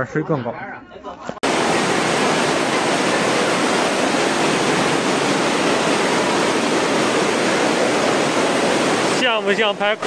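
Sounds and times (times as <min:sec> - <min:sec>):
floodwater rushing: 0:01.4 - 0:10.0.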